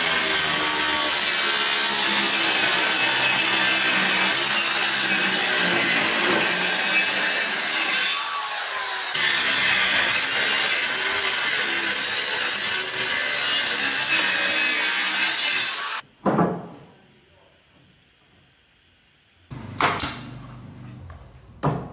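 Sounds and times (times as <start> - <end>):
power tool cutting wood: 0.0 - 16.0, 19.5 - 21.1.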